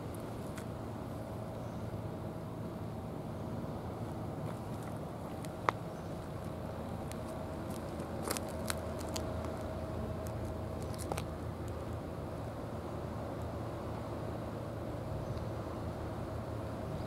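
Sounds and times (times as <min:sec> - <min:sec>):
faint steady hum: 0:00.0 - 0:17.0
low outdoor rumble: 0:00.0 - 0:17.0.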